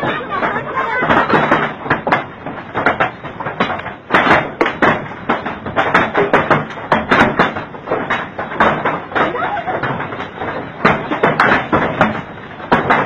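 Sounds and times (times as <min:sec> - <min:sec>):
hail clattering on hard surfaces: 0:00.0 - 0:13.0.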